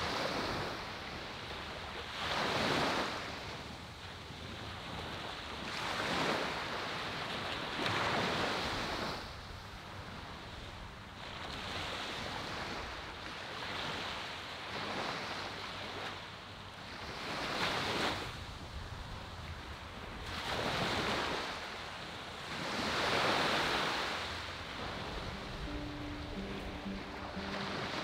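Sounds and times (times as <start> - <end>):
small waves breaking on shore: 0.0 - 28.0.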